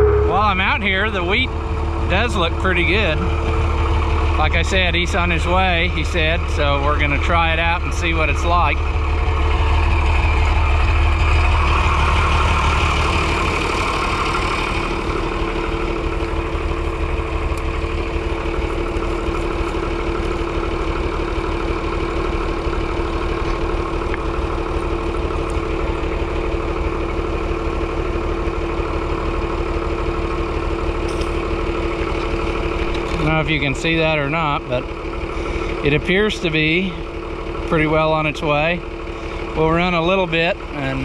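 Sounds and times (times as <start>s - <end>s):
farm machine engine running: 0.0s - 41.0s.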